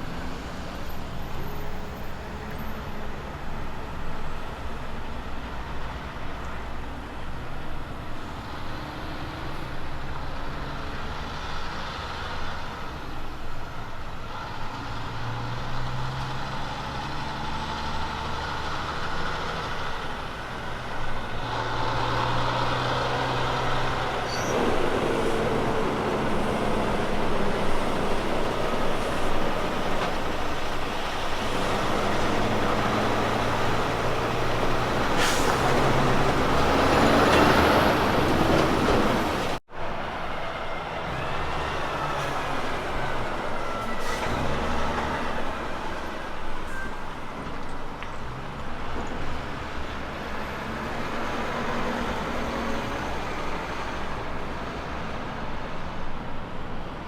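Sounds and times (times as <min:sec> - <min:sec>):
diesel truck engine under load: 0:00.0 - 0:57.0
tyre and road noise: 0:00.0 - 0:57.0.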